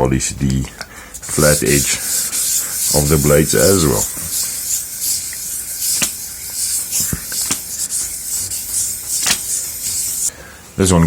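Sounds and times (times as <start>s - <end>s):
blade rubbed on sandpaper: 1.2s - 10.3s.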